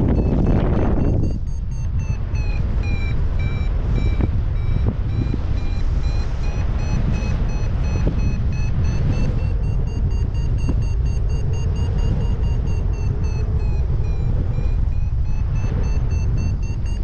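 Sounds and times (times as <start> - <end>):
variometer short high beeps: 0.0 - 17.0
wind rumbling on microphone: 0.0 - 17.0.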